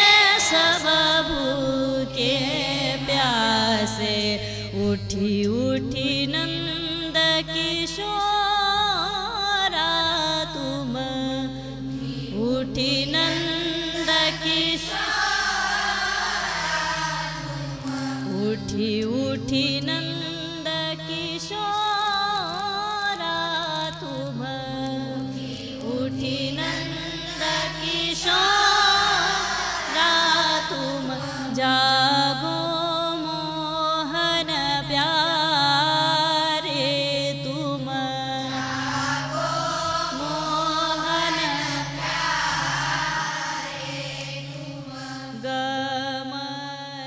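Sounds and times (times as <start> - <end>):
woman singing devotional melody: 0.0 - 47.0.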